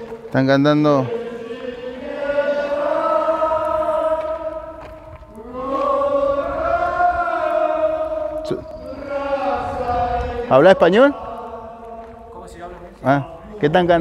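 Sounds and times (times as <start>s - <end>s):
group of voices chanting: 0.0s - 13.8s.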